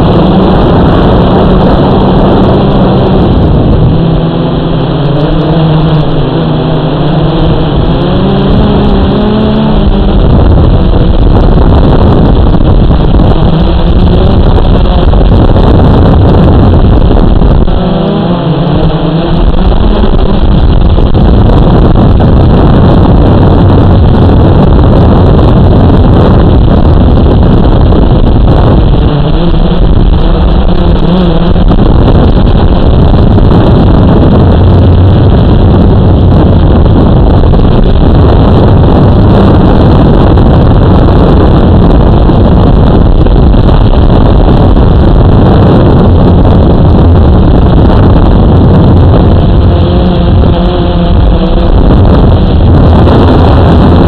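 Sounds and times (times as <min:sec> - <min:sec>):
drone motors buzzing: 0:00.0 - 0:54.0.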